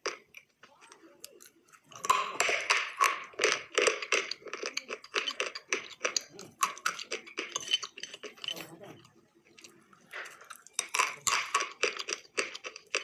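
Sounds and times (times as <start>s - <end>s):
crunchy snack chewing: 0.0s - 13.0s.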